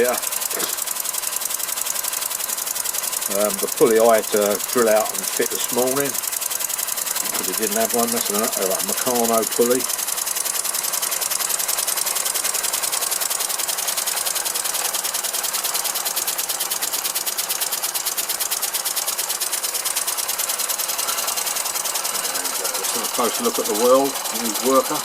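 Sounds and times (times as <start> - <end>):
model engine puffing and clattering: 0.0 - 25.0.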